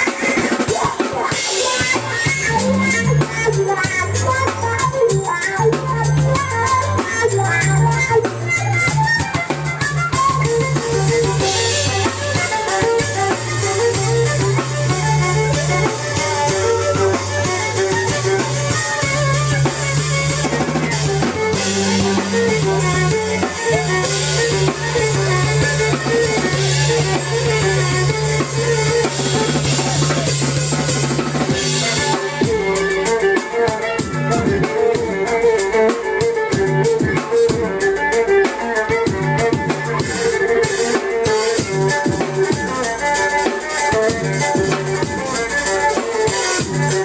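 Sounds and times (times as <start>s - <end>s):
drum beat: 0.0s - 47.0s
keyboard bass notes: 0.0s - 47.0s
violin melody: 0.0s - 47.0s.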